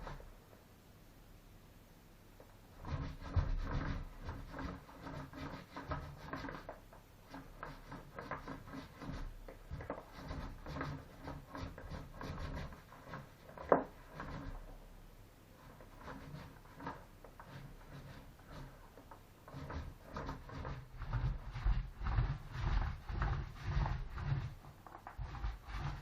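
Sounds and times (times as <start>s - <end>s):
hands rubbing and knocking: 2.4s - 14.8s, 15.6s - 26.0s.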